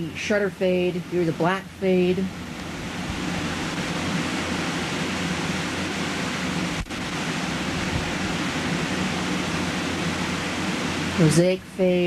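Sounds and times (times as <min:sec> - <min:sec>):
low hum: 0:00.0 - 0:12.0
steady hiss: 0:00.0 - 0:12.0.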